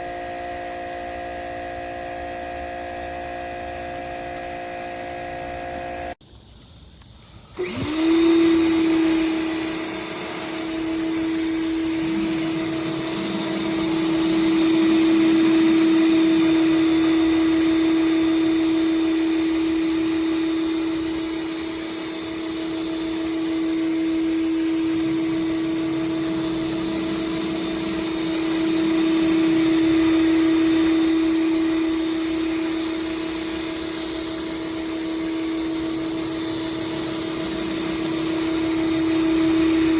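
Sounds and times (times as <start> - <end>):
pressure washer motor whining: 0.0 - 6.2, 7.2 - 39.9.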